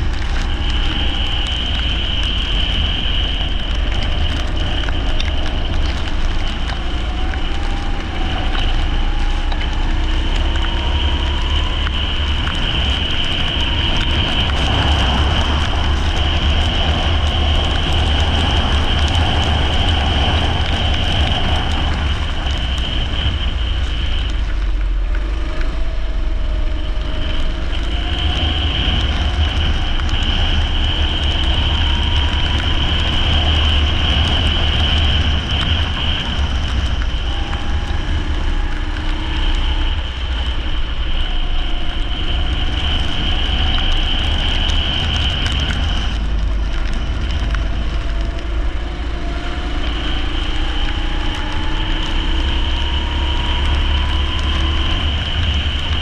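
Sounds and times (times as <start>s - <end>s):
kart engines droning: 0.0s - 56.0s.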